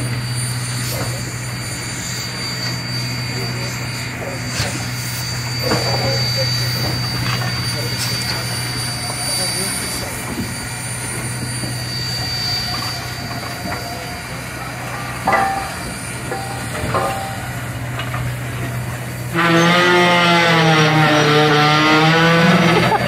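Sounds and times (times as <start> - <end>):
steam whistle blast: 0.0 - 18.1, 19.2 - 23.0
low hum: 0.0 - 23.0.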